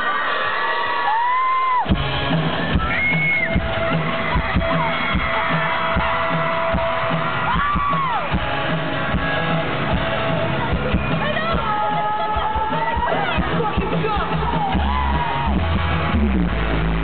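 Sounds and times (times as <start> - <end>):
fans screaming: 0.0 - 17.0
electric guitars: 0.1 - 17.0
live rock band playing: 1.8 - 17.0
kick drum beat: 1.9 - 16.0.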